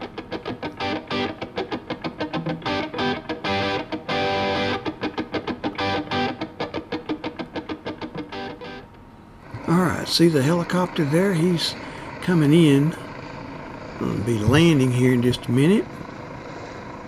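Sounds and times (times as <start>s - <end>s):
held guitar chords: 0.0s - 16.2s
guitar picking notes: 0.0s - 16.8s.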